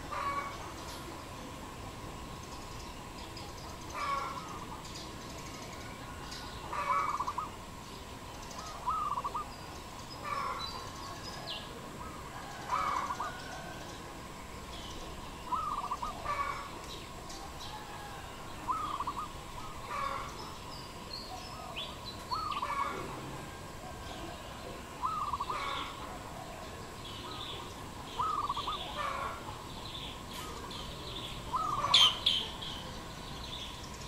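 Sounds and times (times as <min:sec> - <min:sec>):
dove cooing: 0:00.0 - 0:01.4, 0:03.7 - 0:07.7, 0:08.5 - 0:09.6, 0:10.2 - 0:14.2, 0:15.4 - 0:20.6, 0:21.3 - 0:33.1
birds chirping: 0:00.0 - 0:34.0.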